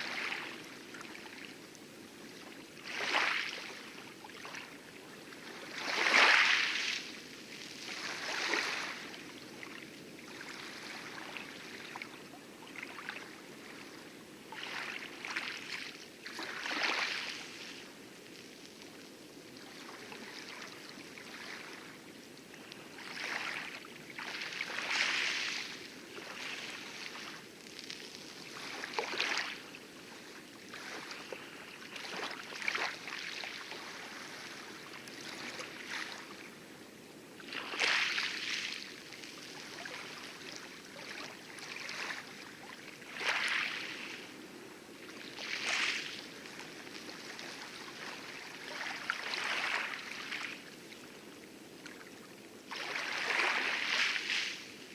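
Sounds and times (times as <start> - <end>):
wavelets lapping on coral: 0.0 - 54.9.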